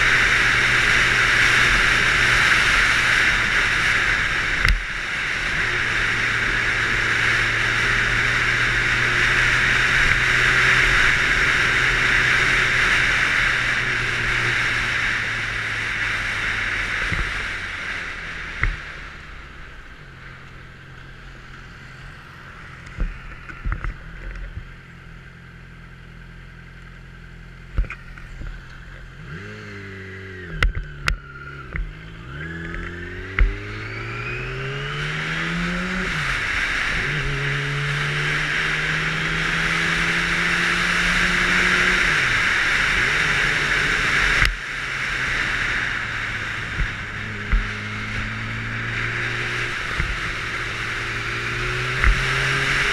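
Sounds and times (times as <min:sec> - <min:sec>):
motorcycle engine: 0:00.0 - 0:52.9.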